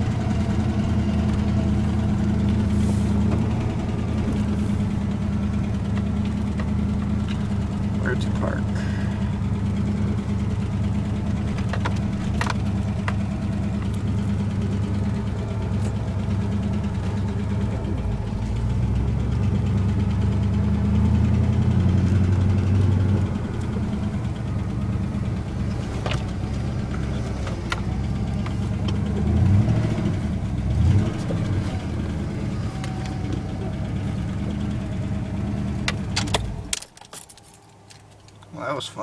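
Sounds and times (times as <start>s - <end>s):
engine with rod knock: 0.0s - 37.4s.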